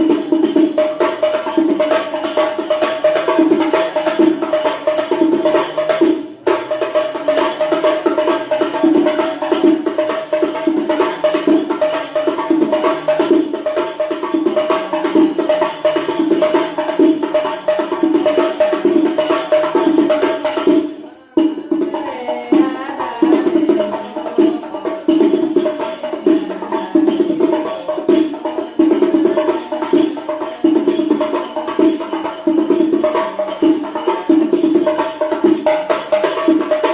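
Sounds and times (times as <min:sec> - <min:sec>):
frame drum played with hands: 0:00.0 - 0:36.9.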